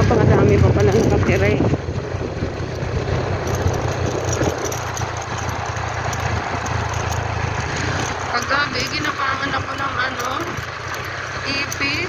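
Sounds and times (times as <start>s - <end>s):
vehicle engine with road noise: 0.0s - 12.0s.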